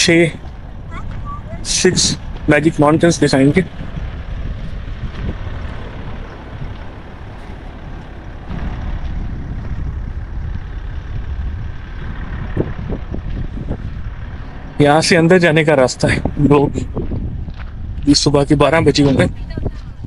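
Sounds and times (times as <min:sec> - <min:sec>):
freeway traffic noise: 0:00.0 - 0:20.0
wind buffeting microphone: 0:00.0 - 0:20.0.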